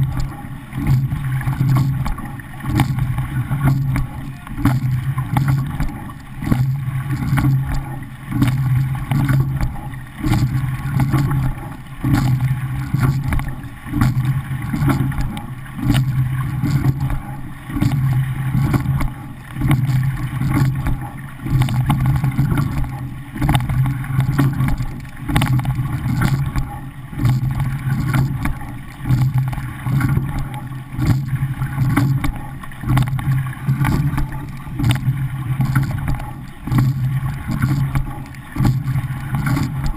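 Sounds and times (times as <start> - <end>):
water rushing along a boat hull: 0.0 - 39.9.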